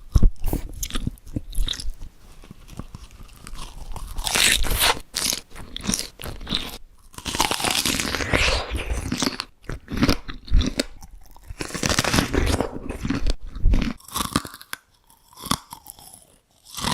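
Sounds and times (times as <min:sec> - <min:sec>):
crunchy chewing: 0:00.0 - 0:16.9.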